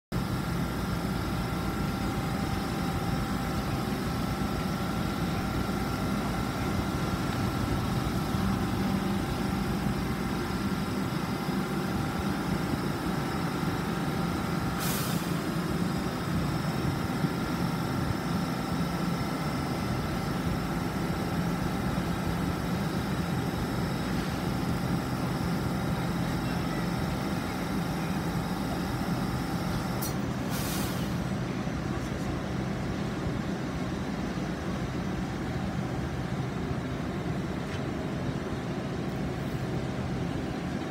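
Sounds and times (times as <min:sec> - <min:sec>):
train equipment humming: 0:00.1 - 0:40.9.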